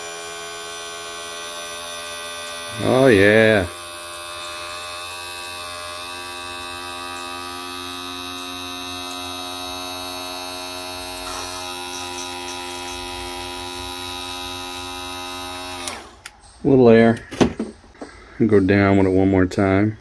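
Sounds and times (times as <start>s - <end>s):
electric pump motor whine: 0.0s - 16.4s.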